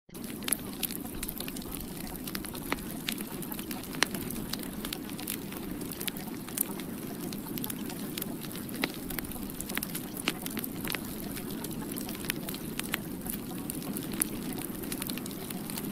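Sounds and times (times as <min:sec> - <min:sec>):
sharp crackles: 0:00.1 - 0:15.9.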